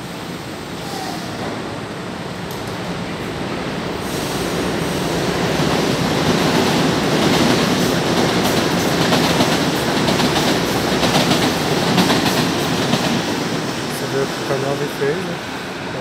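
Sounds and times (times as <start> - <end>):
train pulling away: 0.0 - 16.0.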